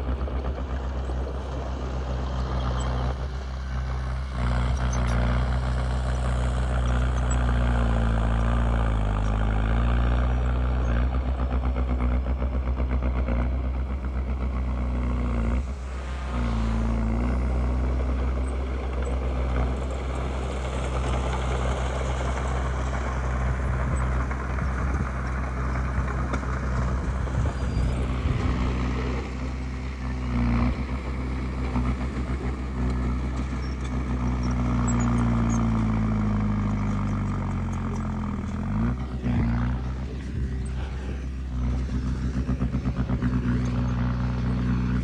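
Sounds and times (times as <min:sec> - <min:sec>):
diesel engine of heavy machinery: 0:00.0 - 0:45.0.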